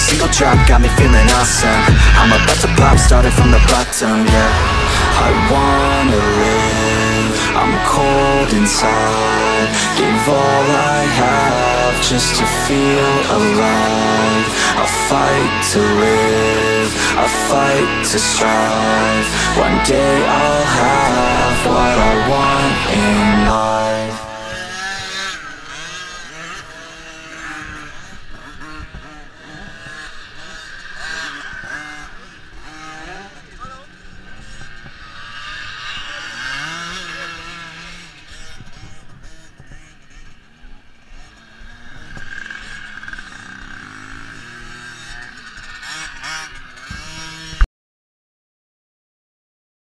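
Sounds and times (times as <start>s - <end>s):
pit bike engines revving past: 0.0s - 47.6s.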